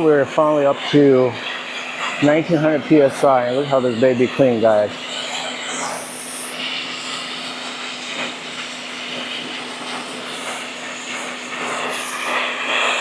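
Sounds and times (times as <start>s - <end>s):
pressure washer motor hum: 0.0s - 13.0s
water jet hissing: 0.0s - 13.0s.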